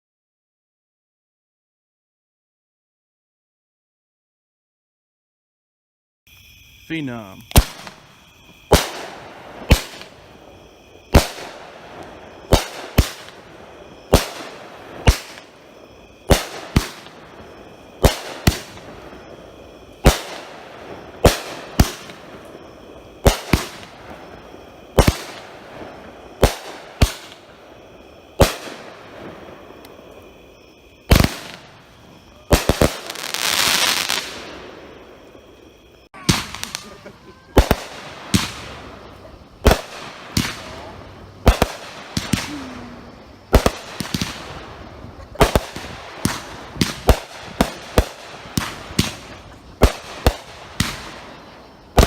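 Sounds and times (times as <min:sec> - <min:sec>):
firework crackling: 0:06.9 - 0:52.0
firework shots: 0:06.9 - 0:52.0.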